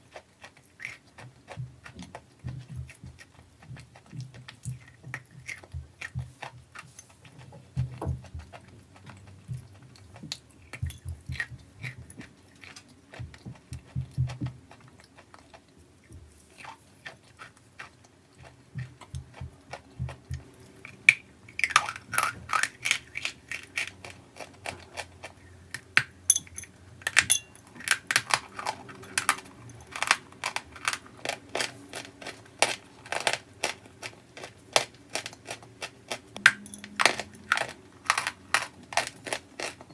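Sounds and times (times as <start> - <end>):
chewing crunchy chalk: 0.0 - 26.1, 27.7 - 39.9.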